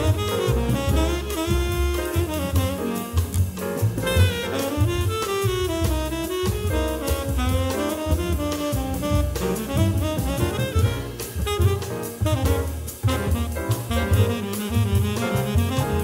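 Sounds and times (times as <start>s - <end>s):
bass line: 0.0s - 16.0s
drum kit with cymbals: 0.0s - 16.0s
tenor saxophone melody: 0.0s - 16.0s.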